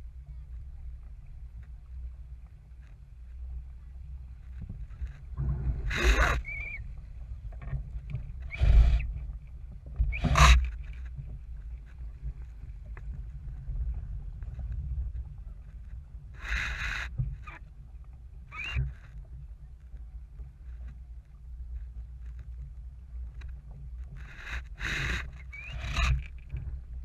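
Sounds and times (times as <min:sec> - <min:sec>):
water splashing along hull: 0:00.0 - 0:27.0
wind rumble on microphone: 0:00.0 - 0:27.0.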